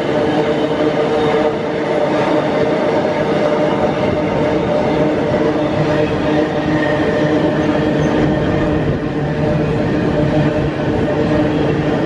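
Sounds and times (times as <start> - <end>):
train wagons rolling on rails: 0.0 - 12.0.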